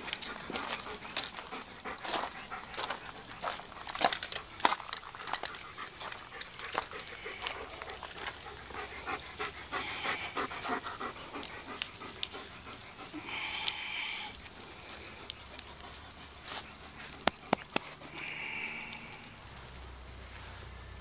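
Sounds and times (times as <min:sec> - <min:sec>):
dog panting: 0:00.0 - 0:19.8.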